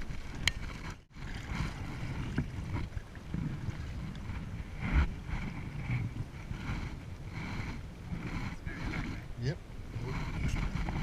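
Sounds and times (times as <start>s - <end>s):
low rumbling wind on microphone: 0.0s - 11.0s.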